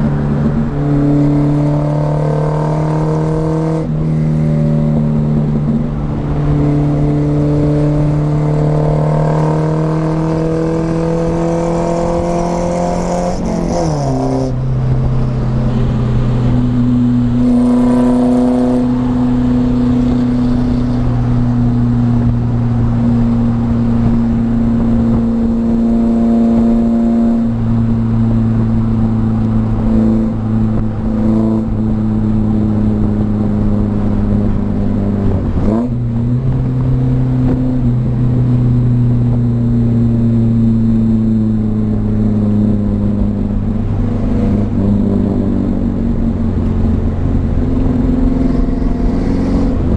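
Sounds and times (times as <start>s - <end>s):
car engine and exhaust driving: 0.0s - 49.9s.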